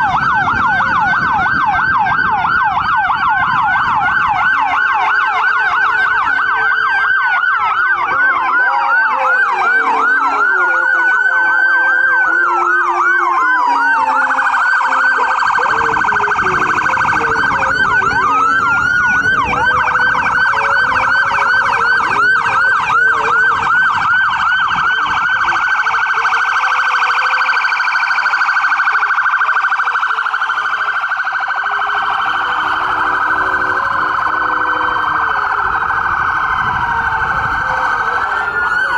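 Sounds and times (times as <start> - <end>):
emergency sirens yelping and wailing: 0.0 - 38.9.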